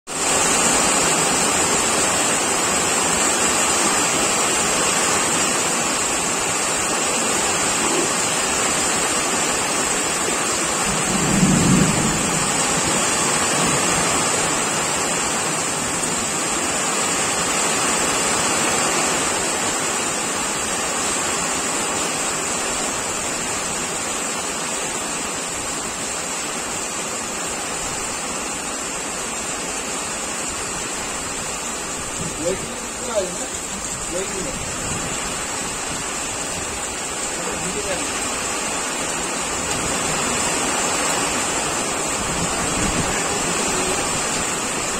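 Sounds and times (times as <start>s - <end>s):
torrential rain on a river: 0.1s - 44.9s.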